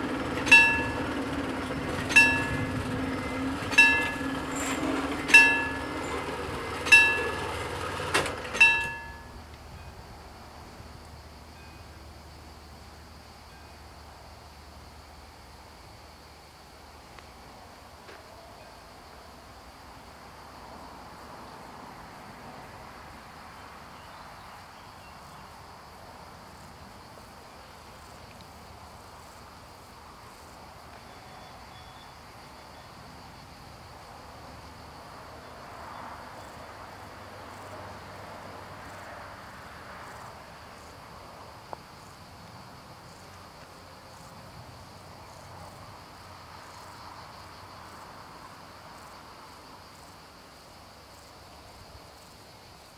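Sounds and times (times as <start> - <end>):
faint outdoor background noise: 0.0 - 52.9
insects chirping: 0.0 - 52.9.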